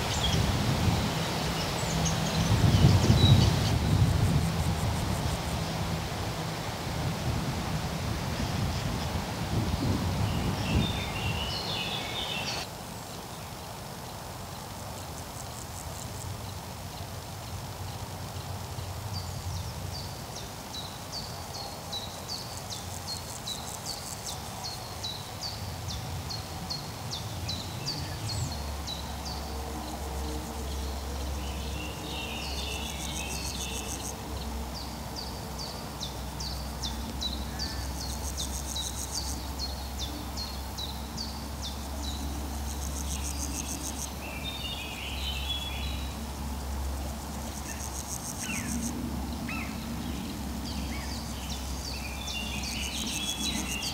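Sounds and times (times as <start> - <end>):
insects buzzing: 0.0 - 53.9.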